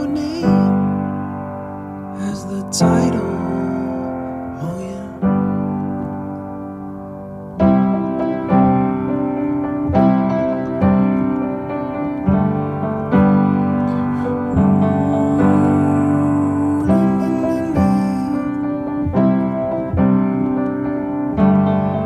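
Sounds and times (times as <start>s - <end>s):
piano chords ringing: 0.0s - 22.0s.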